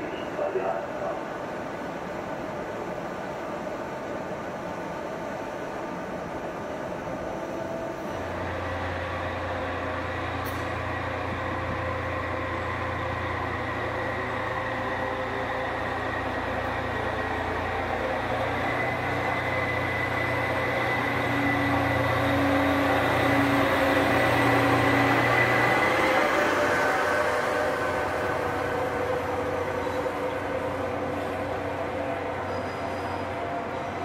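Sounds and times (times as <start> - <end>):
diesel locomotive engine drone: 0.0 - 34.0.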